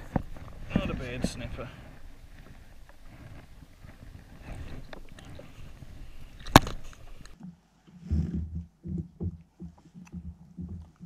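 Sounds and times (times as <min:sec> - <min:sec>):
water and handling noise: 0:00.0 - 0:11.0.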